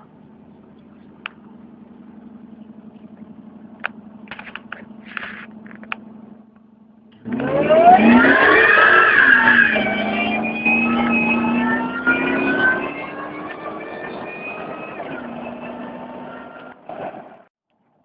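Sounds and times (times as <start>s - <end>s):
supercharger whine: 0.0s - 17.5s
truck engine under load: 0.0s - 17.5s.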